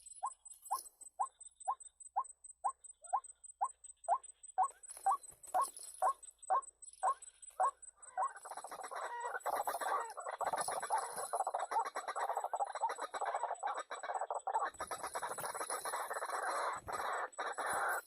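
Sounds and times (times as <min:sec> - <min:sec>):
chorus of bird calls: 0:00.0 - 0:18.0.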